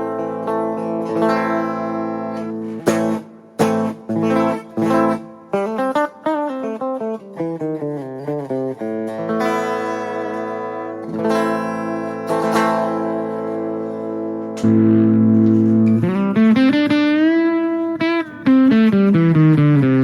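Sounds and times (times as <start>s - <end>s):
clean electric guitar: 0.0s - 20.0s.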